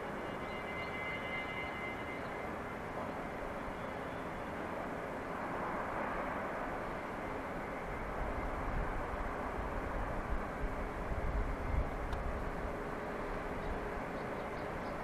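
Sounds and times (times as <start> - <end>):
distant shipyard hum: 0.0 - 15.0
faint high whine: 0.0 - 15.0.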